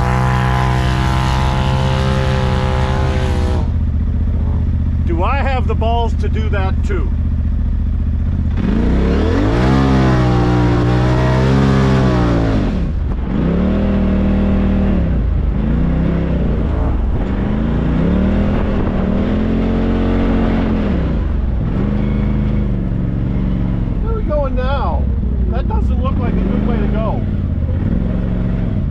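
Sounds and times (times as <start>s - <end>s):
off-road vehicle engine revving: 0.0s - 28.9s.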